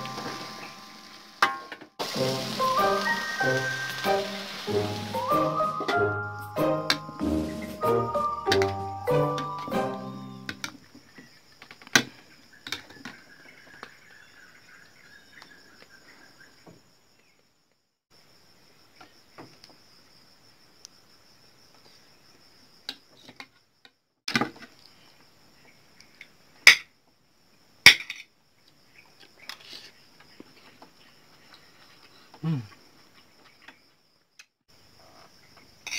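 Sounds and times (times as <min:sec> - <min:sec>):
night insects chirring: 0:00.0 - 0:01.4, 0:02.0 - 0:24.0, 0:24.6 - 0:35.9.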